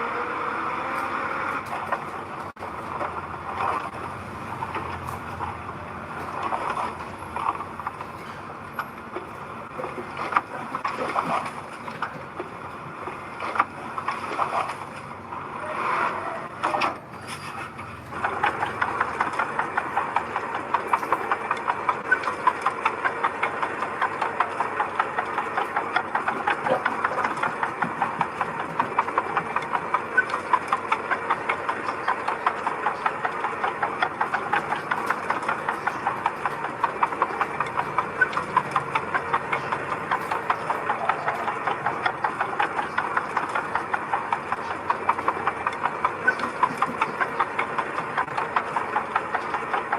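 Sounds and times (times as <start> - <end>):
diesel engine clattering: 0.0 - 49.9.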